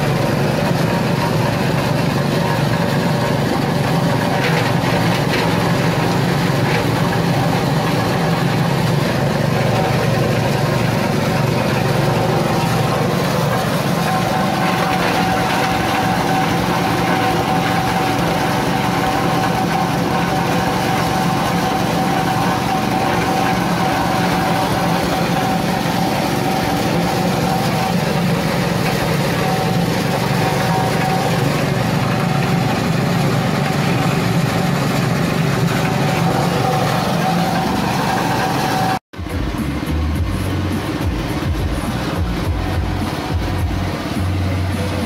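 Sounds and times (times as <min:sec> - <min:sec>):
shredding machine running: 0:00.0 - 0:45.0.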